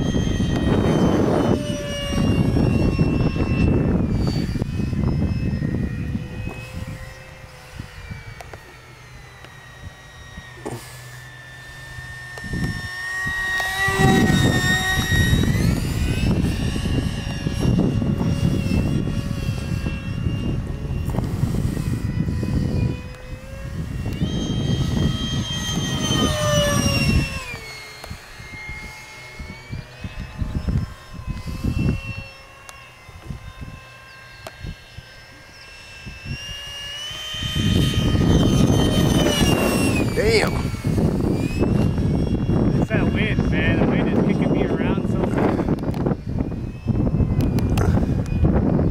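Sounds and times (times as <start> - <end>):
electric ducted fan whining: 0.0 - 48.9
wind buffeting microphone: 0.0 - 48.9.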